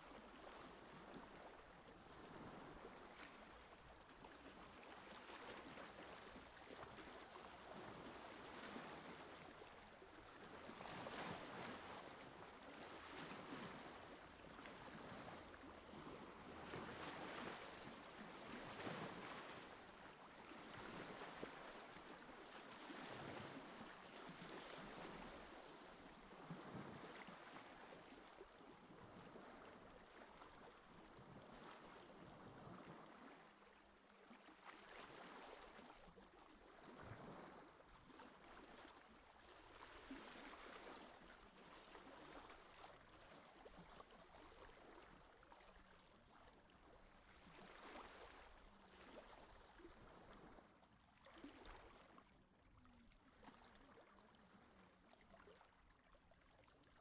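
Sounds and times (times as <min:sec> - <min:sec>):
small waves lapping on a beach: 0:00.0 - 0:57.0.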